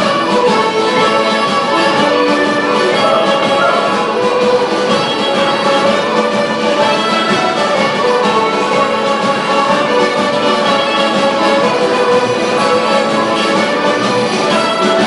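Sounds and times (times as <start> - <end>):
traditional folk music on fiddles: 0.0 - 15.0.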